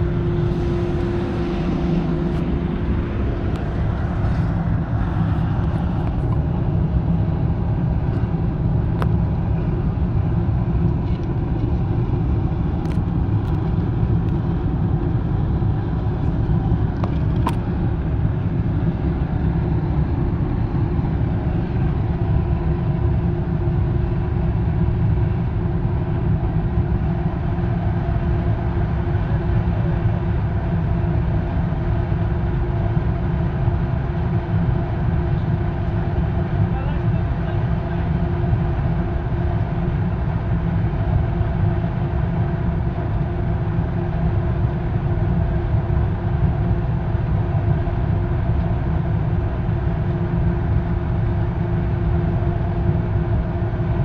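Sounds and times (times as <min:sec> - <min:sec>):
furnace roaring: 0:00.0 - 0:54.0.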